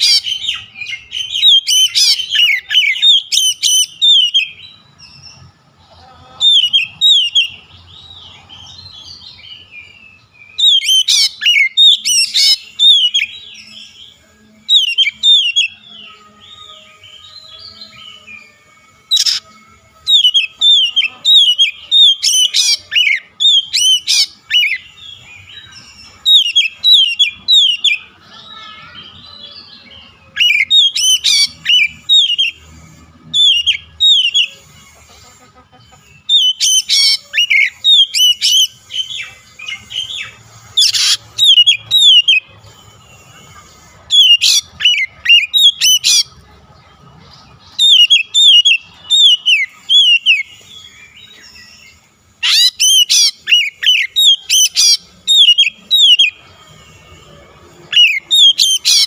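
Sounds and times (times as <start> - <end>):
bird singing whistled notes: 0.0 - 5.5, 6.5 - 35.0, 36.0 - 46.3, 47.6 - 59.0.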